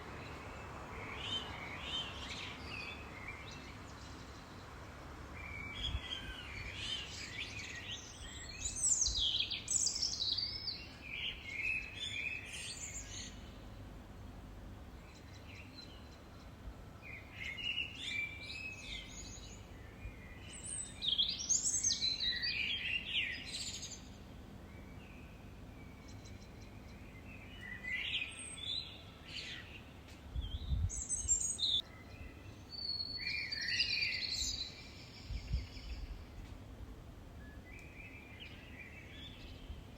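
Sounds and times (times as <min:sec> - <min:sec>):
songbirds trilling: 0:00.0 - 0:36.7
faint background hiss: 0:00.0 - 0:39.9.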